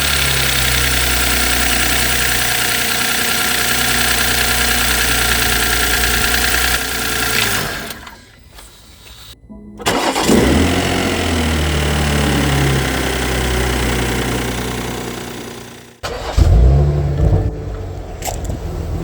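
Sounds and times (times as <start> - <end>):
car engine starting and idling: 0.0 - 19.0.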